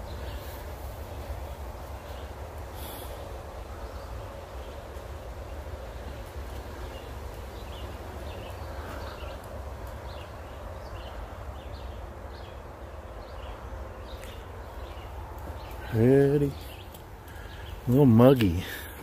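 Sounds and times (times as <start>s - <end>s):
birds chirping: 0.0s - 19.0s
distant highway traffic drone: 0.0s - 19.0s.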